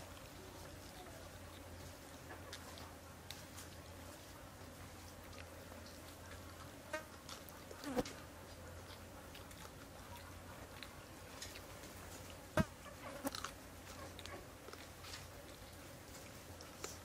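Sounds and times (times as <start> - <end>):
people chewing: 0.0 - 17.0.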